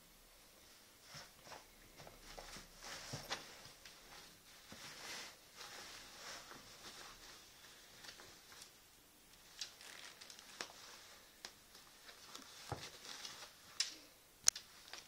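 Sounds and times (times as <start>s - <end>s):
fabric rustling: 0.6s - 15.0s.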